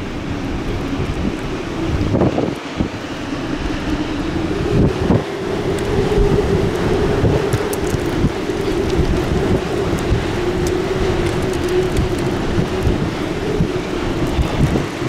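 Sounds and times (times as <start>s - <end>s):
steady drone: 0.0s - 15.0s
wind buffeting microphone: 0.0s - 15.0s.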